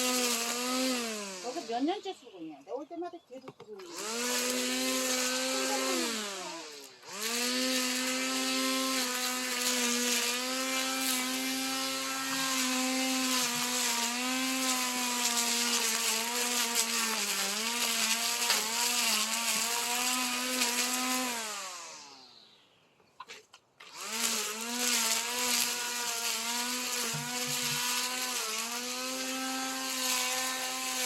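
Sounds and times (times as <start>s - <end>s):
grass trimmer motor whining: 0.0s - 2.5s, 3.6s - 22.5s, 23.8s - 31.0s.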